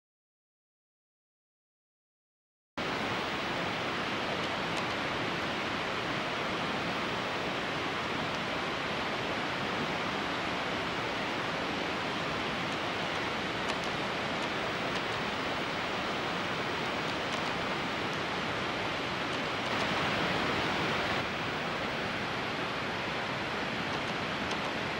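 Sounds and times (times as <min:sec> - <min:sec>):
running water rushing: 0:02.8 - 0:24.9.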